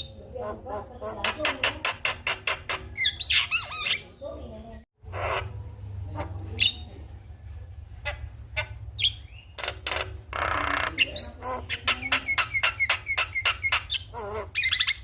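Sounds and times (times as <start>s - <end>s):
myna bird calling: 0.0s - 7.0s, 8.0s - 15.0s.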